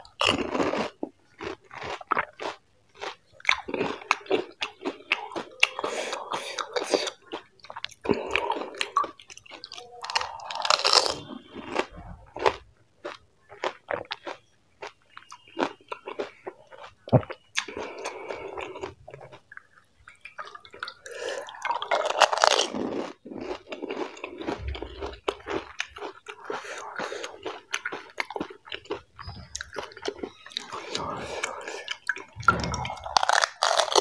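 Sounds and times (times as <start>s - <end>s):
crunchy chewing: 0.0s - 34.0s.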